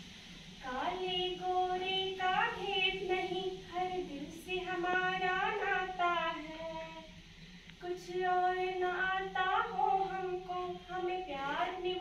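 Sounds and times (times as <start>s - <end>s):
woman singing unaccompanied: 0.6s - 7.1s, 7.8s - 12.0s.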